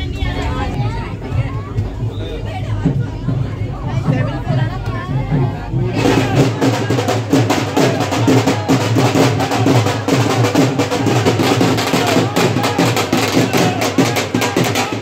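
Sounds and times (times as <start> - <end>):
fast continuous drumming: 2.0 - 15.0.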